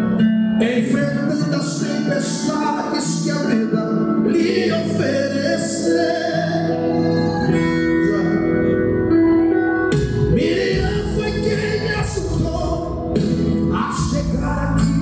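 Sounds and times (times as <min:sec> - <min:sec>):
guitar accompaniment: 0:00.0 - 0:15.0
person singing: 0:00.5 - 0:15.0.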